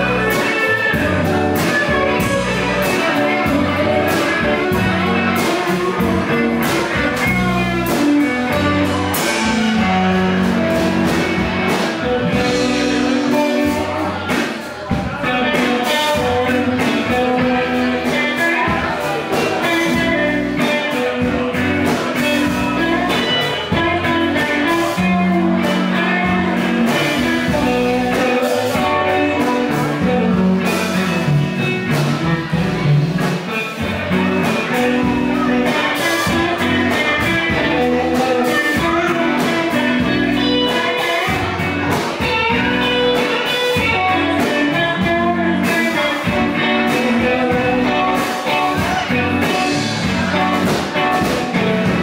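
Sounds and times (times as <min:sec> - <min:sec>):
drum kit: 0:00.0 - 0:52.0
electric bass: 0:00.0 - 0:52.0
electric guitars: 0:00.0 - 0:52.0.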